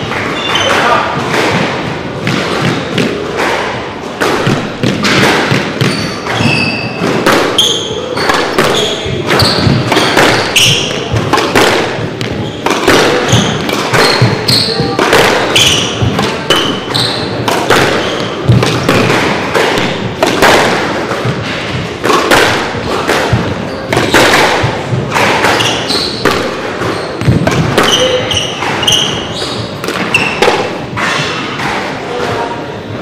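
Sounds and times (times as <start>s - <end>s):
sneakers squeaking on wooden floor: 0.0s - 20.2s, 22.8s - 32.5s
squash ball hitting rackets and walls: 0.0s - 33.0s.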